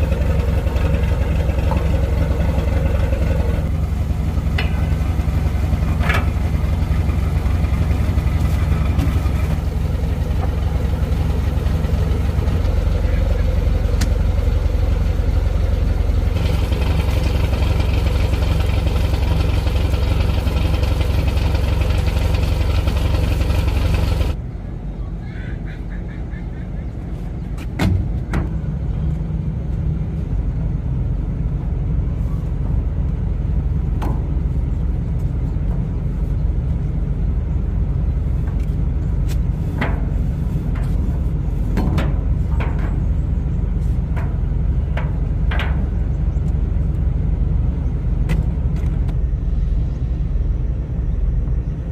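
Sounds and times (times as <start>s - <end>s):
boat engine running: 0.0s - 24.4s, 28.0s - 51.9s.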